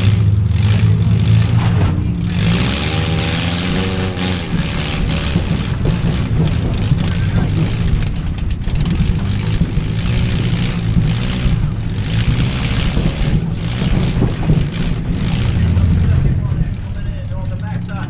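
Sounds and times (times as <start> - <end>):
car engines revving: 0.0 - 18.0
sharp knocks: 1.5 - 16.9.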